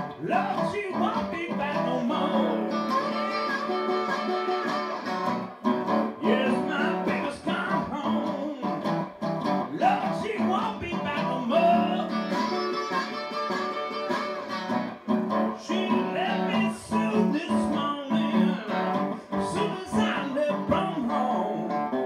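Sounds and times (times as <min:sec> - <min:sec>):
acoustic guitar strummed: 0:00.0 - 0:22.0
man singing blues: 0:00.0 - 0:22.0.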